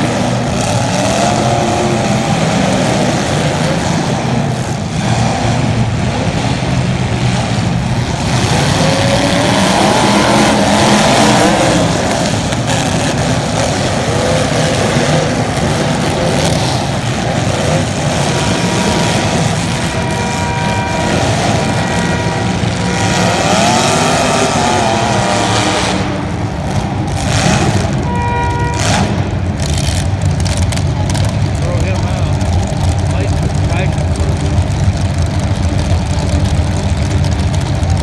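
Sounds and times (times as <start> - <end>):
race engines accelerating: 0.0 - 38.0.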